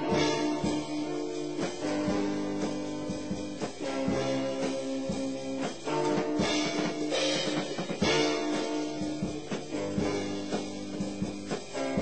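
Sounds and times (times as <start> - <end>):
drum beat: 0.0 - 12.0
guitar: 0.0 - 12.0
held keyboard chords: 0.0 - 12.0.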